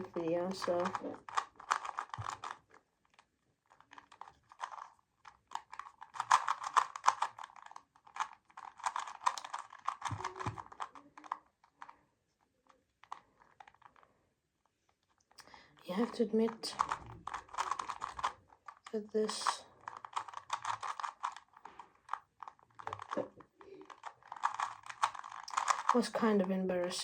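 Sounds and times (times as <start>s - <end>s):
puzzle cube clacking: 0.0s - 12.0s, 12.6s - 14.0s, 15.9s - 27.0s.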